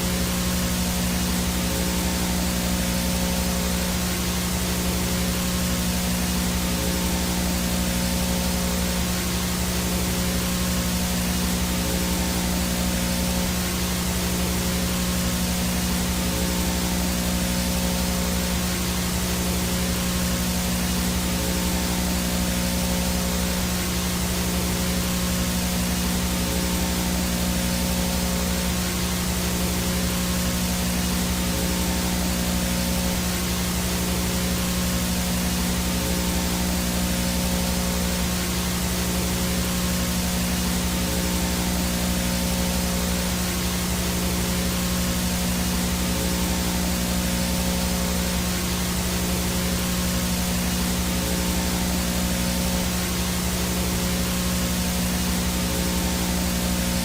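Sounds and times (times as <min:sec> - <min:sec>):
faint high whine: 0:00.0 - 0:57.0
low electrical hum: 0:00.0 - 0:57.0
white noise static hiss: 0:00.0 - 0:57.0.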